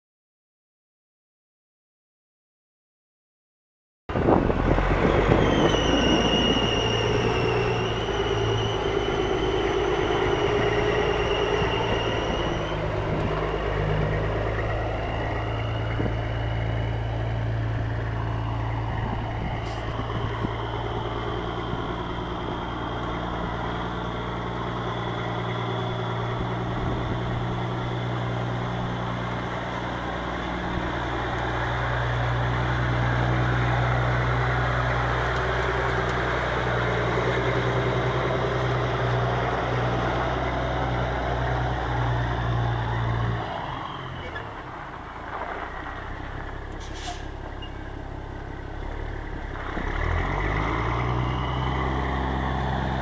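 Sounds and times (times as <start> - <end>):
diesel truck idling: 4.1 - 53.0.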